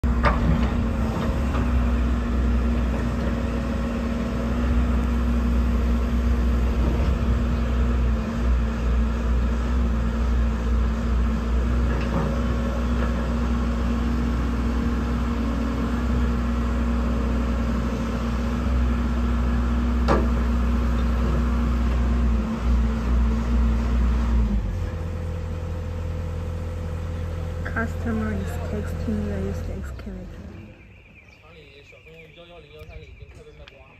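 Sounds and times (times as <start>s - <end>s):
excavator diesel engine idling: 0.0s - 32.8s.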